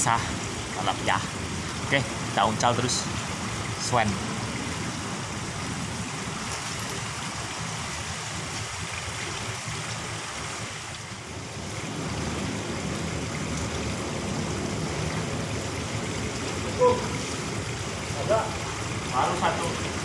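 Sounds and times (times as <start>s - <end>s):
river water rushing over weir: 0.0s - 20.0s.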